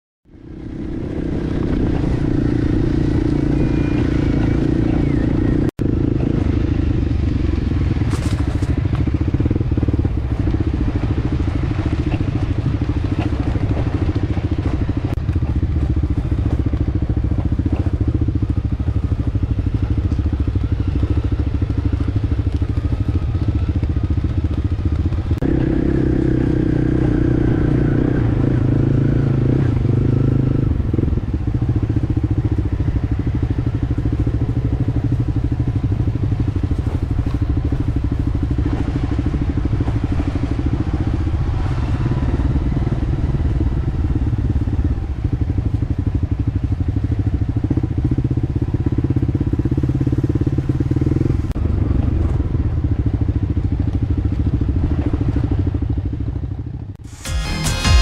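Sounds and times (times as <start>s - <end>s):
dirt bike engine running: 0.3s - 58.0s.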